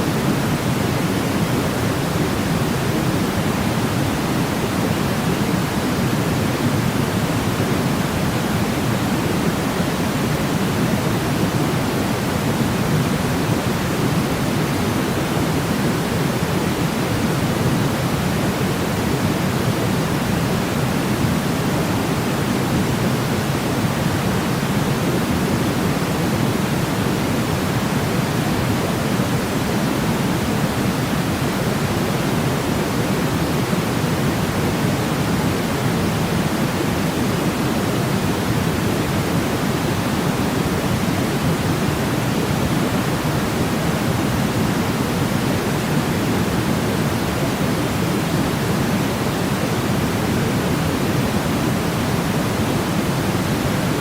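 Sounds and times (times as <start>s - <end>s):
steady low hiss noise: 0.0s - 54.0s.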